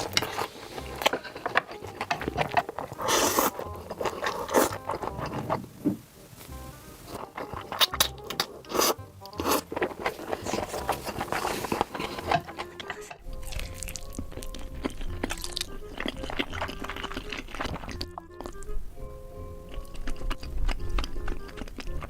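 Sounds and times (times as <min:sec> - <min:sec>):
background music: 0:00.0 - 0:22.0
crunchy chewing: 0:00.0 - 0:22.0.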